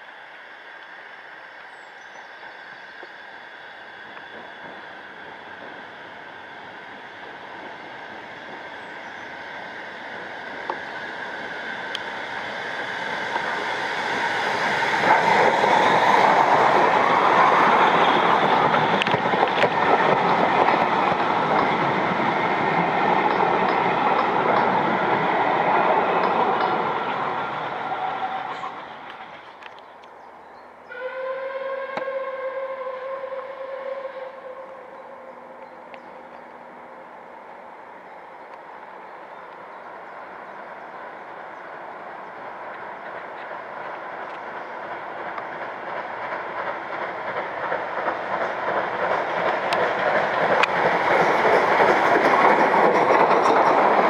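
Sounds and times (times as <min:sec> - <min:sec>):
train on the rails: 0:00.0 - 0:54.0.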